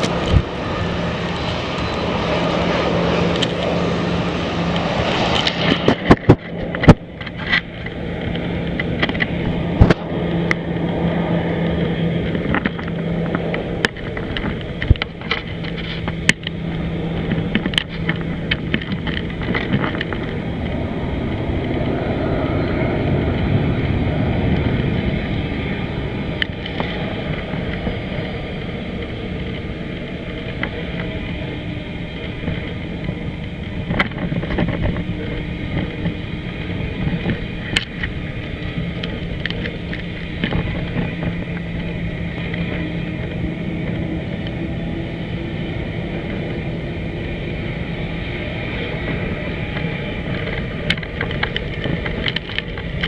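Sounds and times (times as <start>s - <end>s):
jet engine roar: 0.0s - 53.0s.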